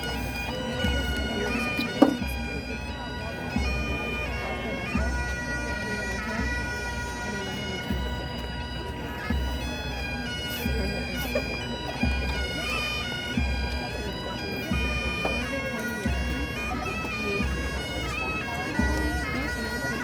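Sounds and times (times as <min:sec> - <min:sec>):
bagpipes playing: 0:00.0 - 0:20.0.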